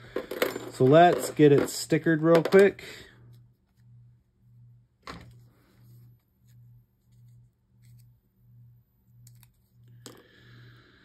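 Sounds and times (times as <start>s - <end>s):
low pulsing hum: 0.0s - 11.0s.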